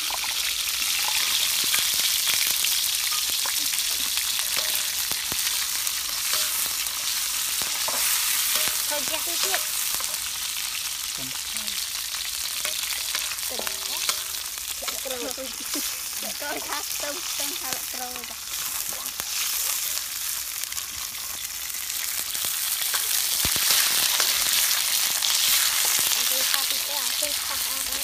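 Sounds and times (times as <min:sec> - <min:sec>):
lemongrass sizzling in oil: 0:00.0 - 0:28.0.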